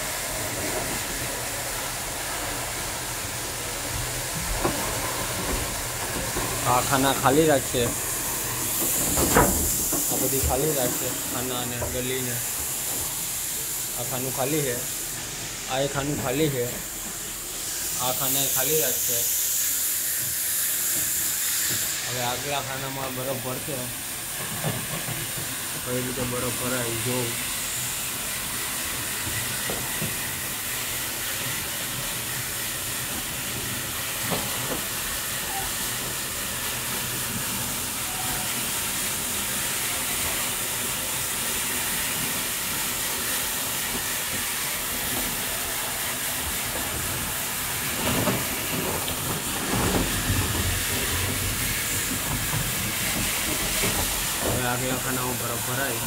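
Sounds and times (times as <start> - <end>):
crushed ice rushing through hose: 0.0 - 56.0.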